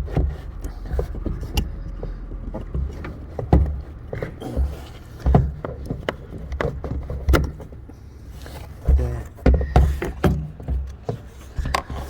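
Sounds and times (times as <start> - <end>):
dull thumps: 0.0 - 7.9, 8.5 - 12.0.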